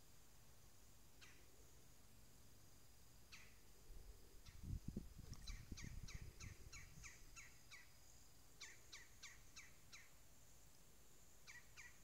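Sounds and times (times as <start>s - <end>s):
songbird singing faintly: 0.0s - 12.0s.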